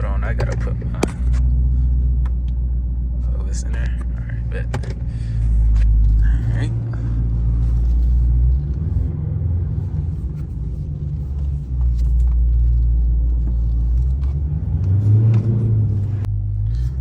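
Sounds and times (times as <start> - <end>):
car engine deep rumble: 0.0 - 17.0.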